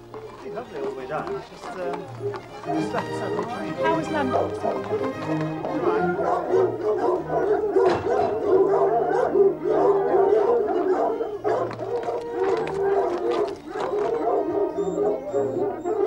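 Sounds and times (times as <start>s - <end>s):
hounds baying and howling: 0.1s - 16.0s.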